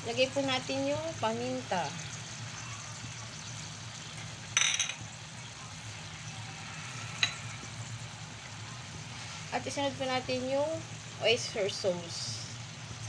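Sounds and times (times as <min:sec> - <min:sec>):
meat and onion frying in pan: 0:00.0 - 0:13.0.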